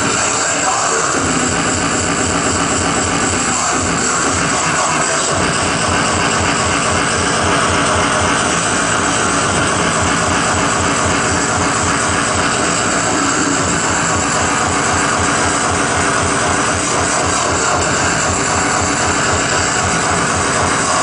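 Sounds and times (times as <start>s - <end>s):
loud hardcore techno music: 0.0s - 21.0s
fast kick drum: 1.1s - 21.0s.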